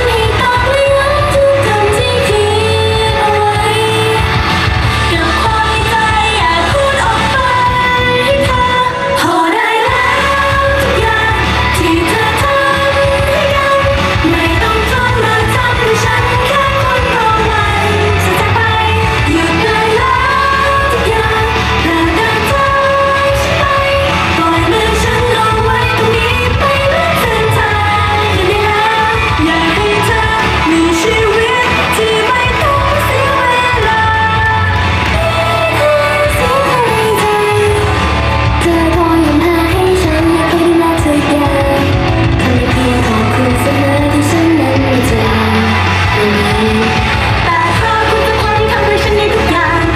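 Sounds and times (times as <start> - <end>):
loud pop music: 0.0 - 49.9
women singing into microphones: 0.0 - 49.9.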